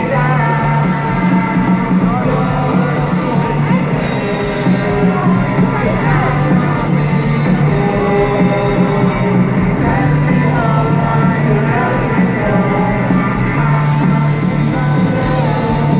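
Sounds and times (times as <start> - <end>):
live rock band playing: 0.0 - 15.9
person singing: 0.0 - 15.9.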